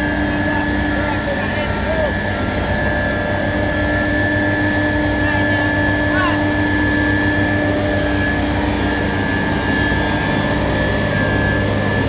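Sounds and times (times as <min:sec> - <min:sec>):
diesel machinery engine drone: 0:00.0 - 0:12.0
high machinery whine: 0:00.0 - 0:12.0.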